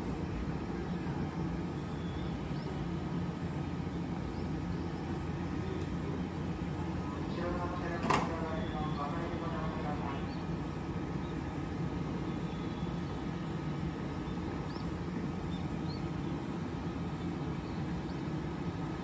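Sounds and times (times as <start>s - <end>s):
electric train equipment humming: 0.0s - 19.0s.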